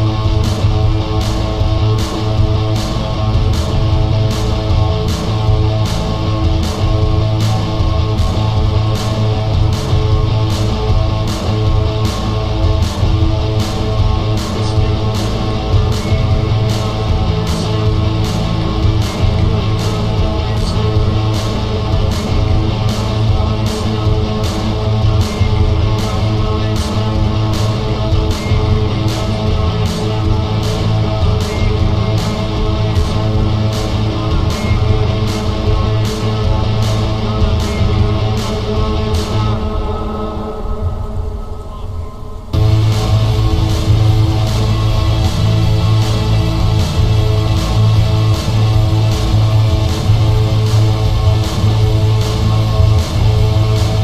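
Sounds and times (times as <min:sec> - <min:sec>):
rock music with guitar: 0:00.0 - 0:41.4, 0:42.4 - 0:54.0.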